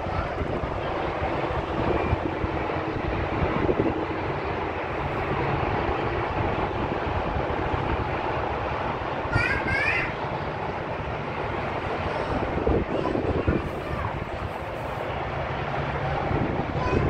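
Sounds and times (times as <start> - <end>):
busy highway traffic: 0.0 - 17.0.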